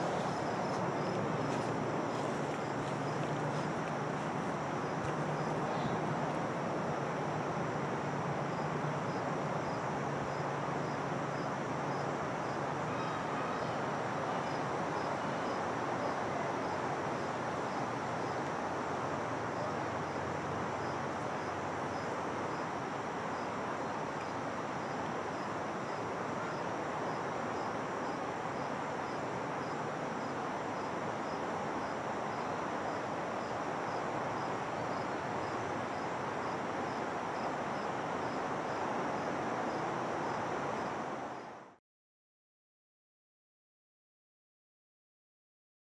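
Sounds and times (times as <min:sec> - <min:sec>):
insects chirping: 0:00.0 - 0:41.6
rushing background noise: 0:00.0 - 0:41.7.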